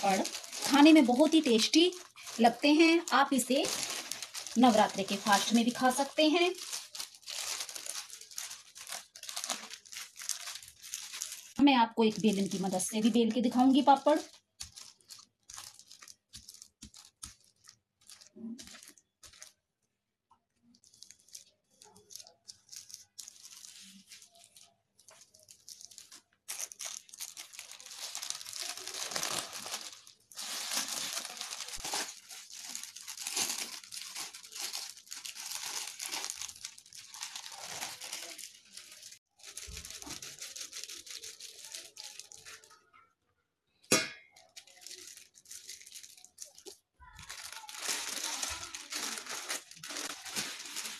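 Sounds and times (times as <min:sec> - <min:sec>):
plastic sheet crinkling: 0:00.0 - 0:19.8, 0:20.5 - 0:42.8, 0:44.3 - 0:50.9.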